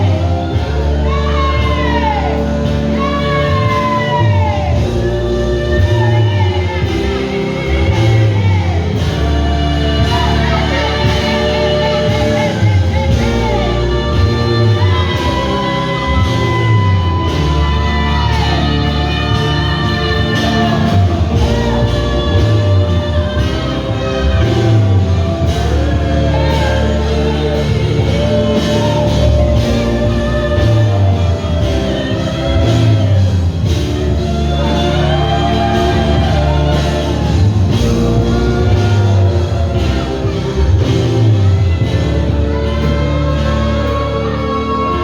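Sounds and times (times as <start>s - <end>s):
church worship band: 0.0s - 45.0s
voices singing held notes: 0.0s - 45.0s.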